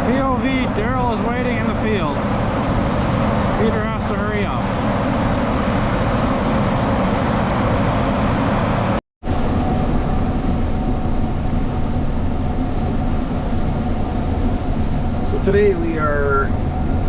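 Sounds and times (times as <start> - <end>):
faint machine whine: 0.0 - 17.0
harvest machinery engine drone: 0.0 - 17.0.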